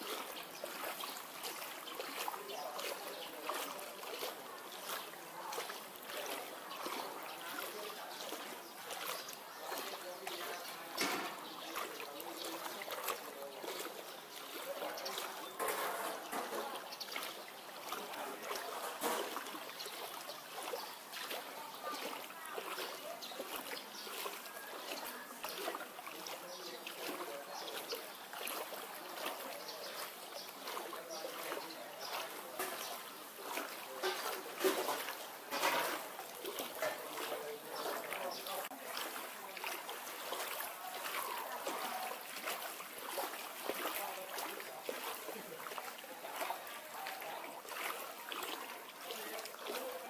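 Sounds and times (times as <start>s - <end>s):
faint voices: 0.0s - 50.0s
floodwater splashing and sloshing: 0.0s - 50.0s.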